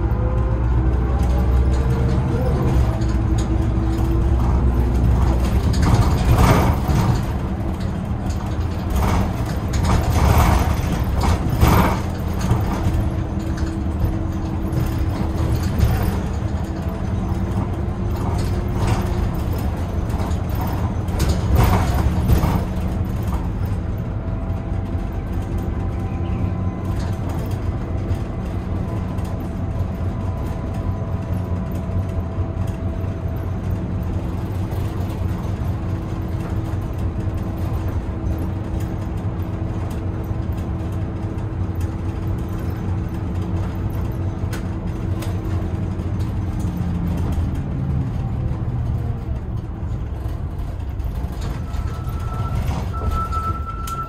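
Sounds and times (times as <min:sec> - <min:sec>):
bus diesel engine running: 0:00.0 - 0:54.0
tyre and road rumble: 0:00.0 - 0:54.0
short knocks and rattles: 0:01.3 - 0:53.9.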